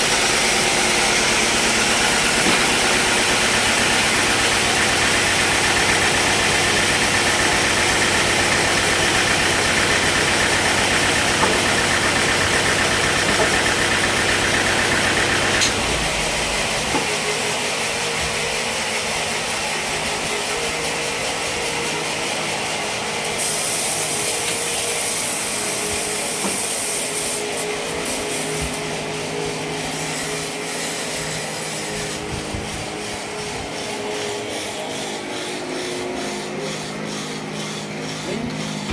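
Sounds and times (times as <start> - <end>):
wood being sanded: 0.0 - 38.9
woodworking machine humming: 0.0 - 38.9.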